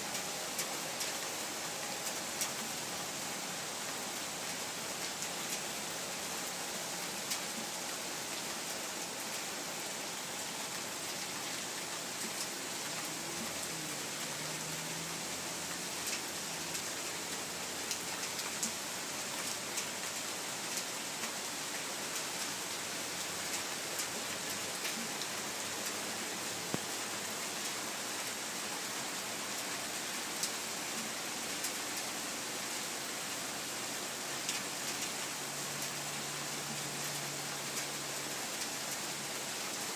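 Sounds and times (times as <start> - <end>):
raindrops ticking close by: 0.0 - 39.9
steady rain falling: 0.0 - 39.9.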